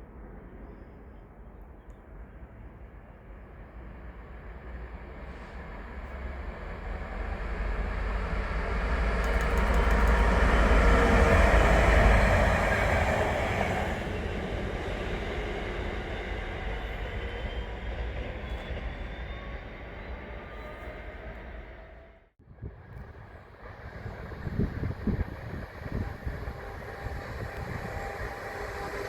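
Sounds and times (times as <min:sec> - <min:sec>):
freight train passing: 0:00.0 - 0:29.0.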